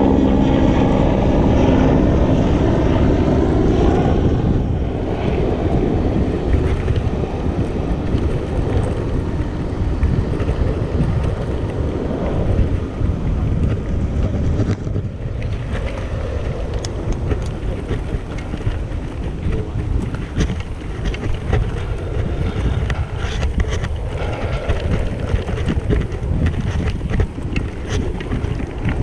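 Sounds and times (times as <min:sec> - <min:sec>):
electric wheelchair low rumble: 0:00.0 - 0:29.0
wind buffeting microphone: 0:00.0 - 0:29.0.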